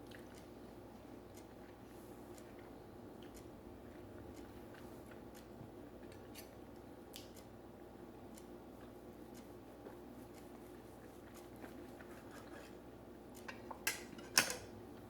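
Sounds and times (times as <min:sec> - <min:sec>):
person chewing: 0:00.0 - 0:07.5, 0:08.3 - 0:13.5.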